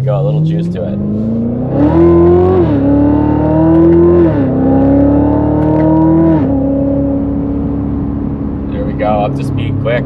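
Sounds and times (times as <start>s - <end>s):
car engine accelerating hard: 0.1s - 10.0s.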